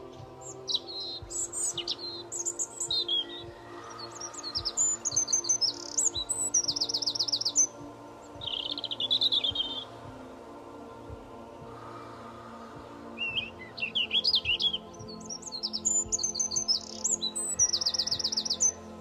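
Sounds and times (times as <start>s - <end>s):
soft background music: 0.0s - 19.0s
songbirds chirping and singing: 0.0s - 19.0s.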